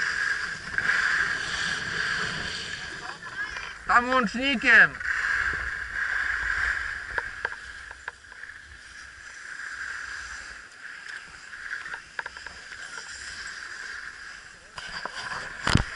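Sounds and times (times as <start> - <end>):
skis sliding over snow: 0.0 - 15.9
wind rumbling on microphone: 0.0 - 15.9.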